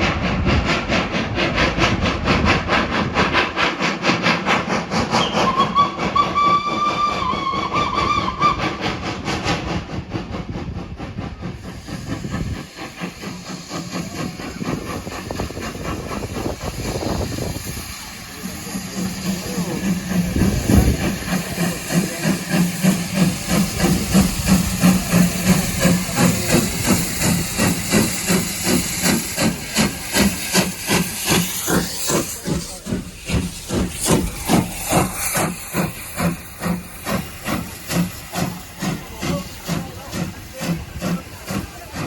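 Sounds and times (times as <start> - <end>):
steam hissing: 0.0 - 42.0
steam locomotive chuffing: 0.0 - 42.0.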